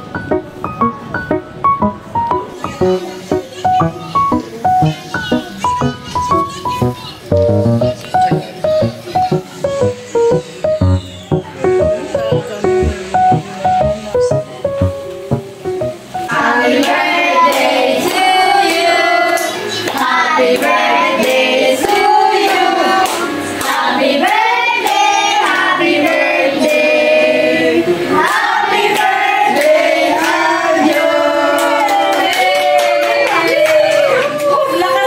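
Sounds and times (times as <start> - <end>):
high voice singing with music: 2.4 - 32.2.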